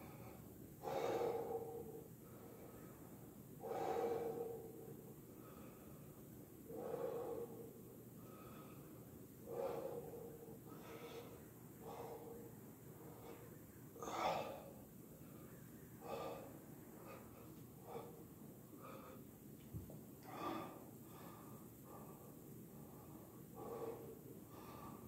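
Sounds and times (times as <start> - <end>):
man breathing hard: 0.0 - 25.0.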